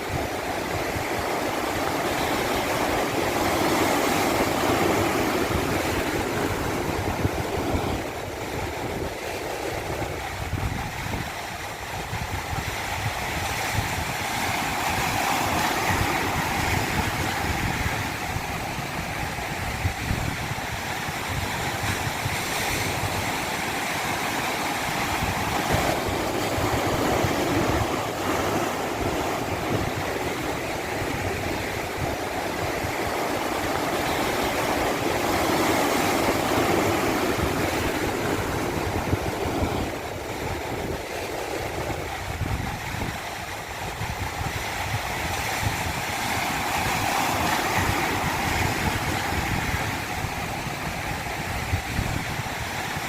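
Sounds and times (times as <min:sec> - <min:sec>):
water rushing in a stream: 0:00.0 - 0:53.0.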